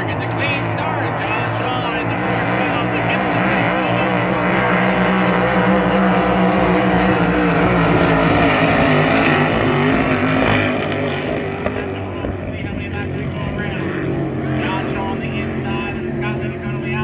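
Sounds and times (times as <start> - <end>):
racing boat engines at full speed: 0.0 - 17.0.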